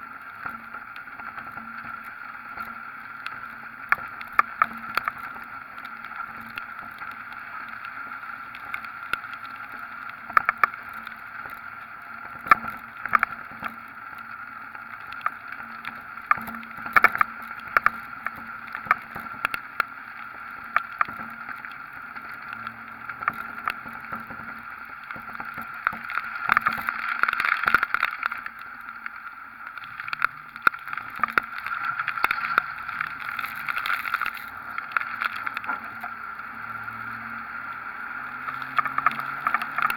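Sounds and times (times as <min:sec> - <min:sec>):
water spraying from road: 0:00.0 - 0:28.4, 0:30.0 - 0:39.9
raindrops tapping on camera: 0:00.0 - 0:39.9
wind and rain rushing: 0:00.0 - 0:39.9.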